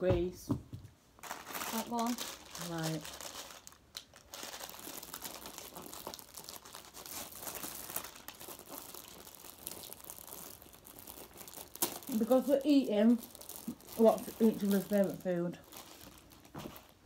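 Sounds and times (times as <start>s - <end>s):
paper bags crinkling: 1.2s - 17.0s.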